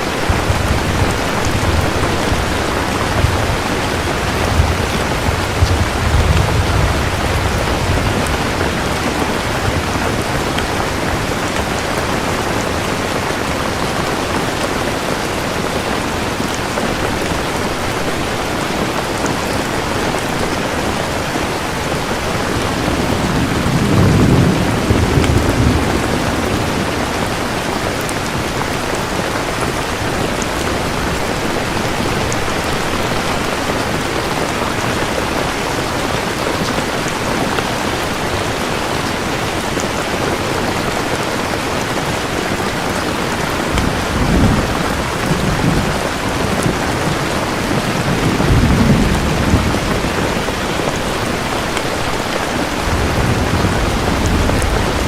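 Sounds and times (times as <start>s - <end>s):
thunder rumbling: 0.0s - 41.4s, 42.0s - 55.0s
heavy rain falling: 0.0s - 55.0s.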